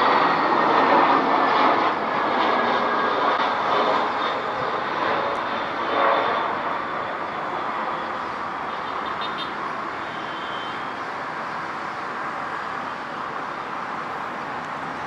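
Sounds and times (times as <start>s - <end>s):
jet engines rushing and whining: 0.0s - 15.0s.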